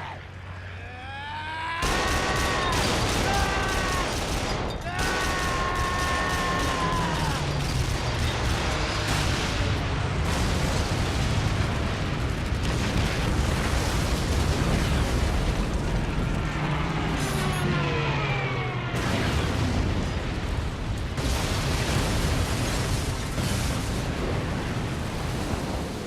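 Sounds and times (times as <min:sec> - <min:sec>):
falling whine: 0:00.0 - 0:23.3
deep rumble: 0:00.0 - 0:26.0
explosions: 0:01.8 - 0:26.0.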